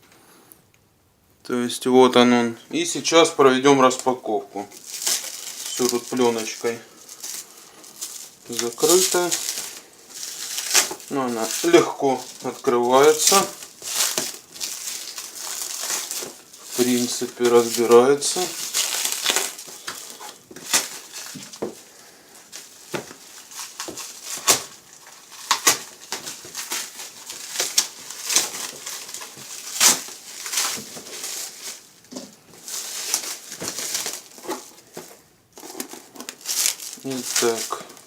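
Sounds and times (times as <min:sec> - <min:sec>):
plastic film crinkling: 0:02.7 - 0:38.0.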